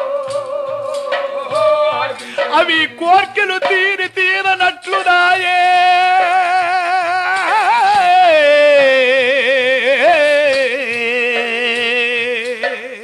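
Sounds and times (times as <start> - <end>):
person singing wordless melody: 0.0 - 13.0.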